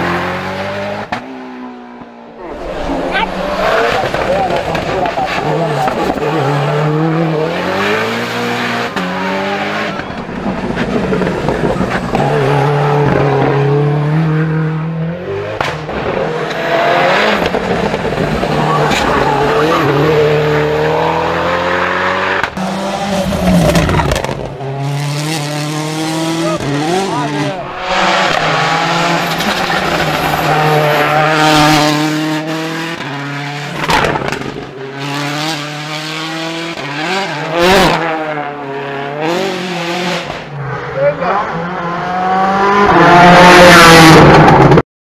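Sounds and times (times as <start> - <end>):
rally car engine at full throttle: 0.0 - 44.8.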